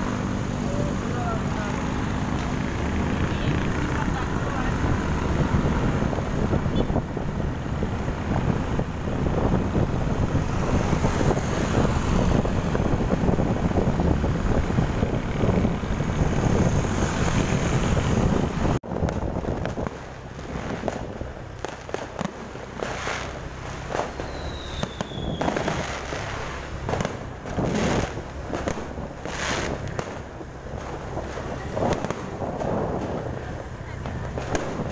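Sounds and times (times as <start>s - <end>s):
road and traffic noise: 0.0s - 34.9s
wind buffeting microphone: 0.0s - 34.9s
distant fireworks popping: 0.2s - 34.9s.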